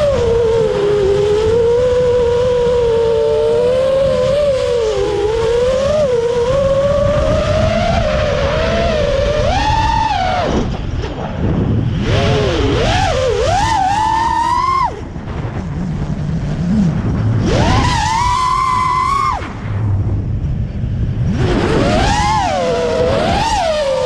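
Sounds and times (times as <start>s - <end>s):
drone motors and propellers whining: 0.0s - 24.0s.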